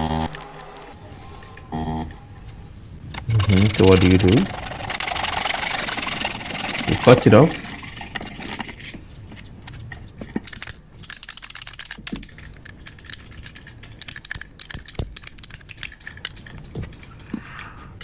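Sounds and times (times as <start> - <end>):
hand tools clicking and rattling: 1.0 - 18.0.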